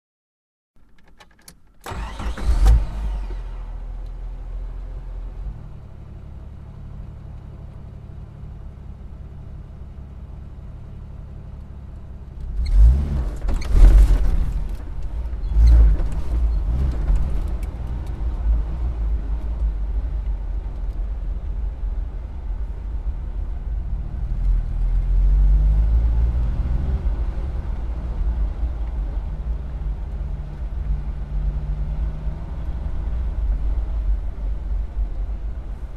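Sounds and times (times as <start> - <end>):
car engine idling and revving: 0.8 - 35.9
car pulling away: 1.0 - 35.9.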